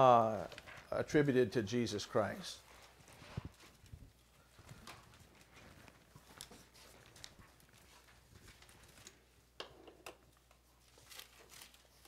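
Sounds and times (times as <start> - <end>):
faint clicks and rustles: 0.4 - 1.0, 2.6 - 12.0.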